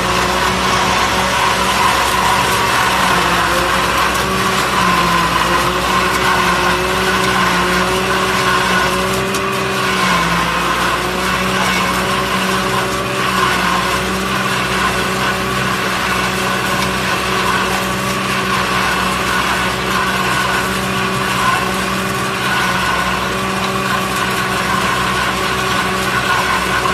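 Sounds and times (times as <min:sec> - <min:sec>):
tractor and forage harvester running: 0:00.0 - 0:26.9.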